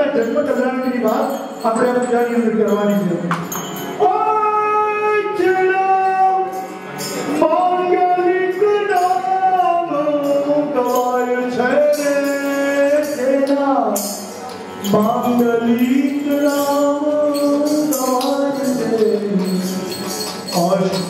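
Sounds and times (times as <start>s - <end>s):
man singing a hymn: 4.0s - 21.0s.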